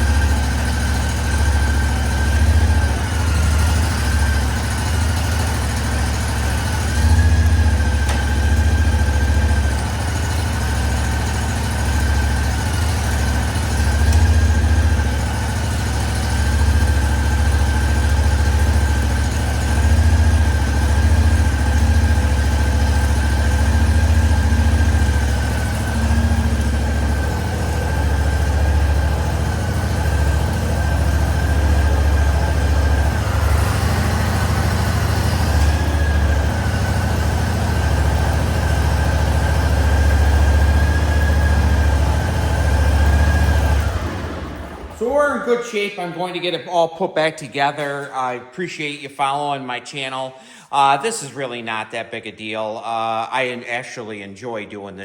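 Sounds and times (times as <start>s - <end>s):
garden tractor engine running: 0.0s - 46.8s.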